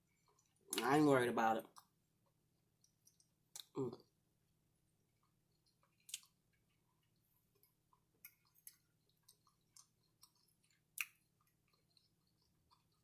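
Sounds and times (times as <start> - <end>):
chewing with wet mouth clicks: 0.0 - 1.0, 1.6 - 4.2, 5.1 - 13.0.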